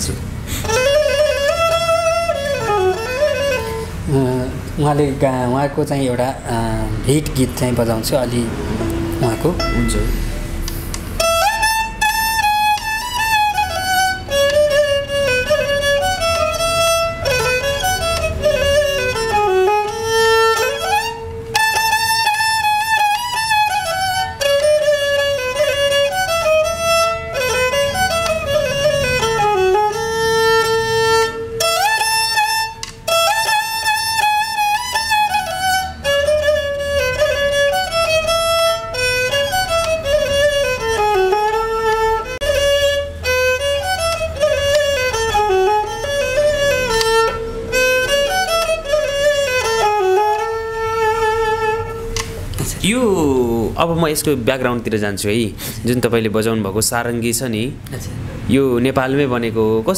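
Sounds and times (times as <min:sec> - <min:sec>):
bowed fiddle folk melody: 0:00.0 - 0:52.6.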